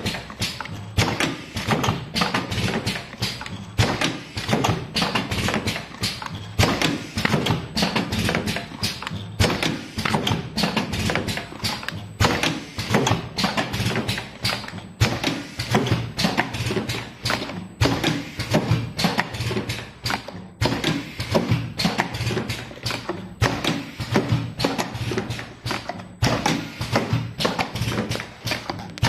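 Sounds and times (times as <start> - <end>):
machine clacking and knocking: 0.0 - 29.0.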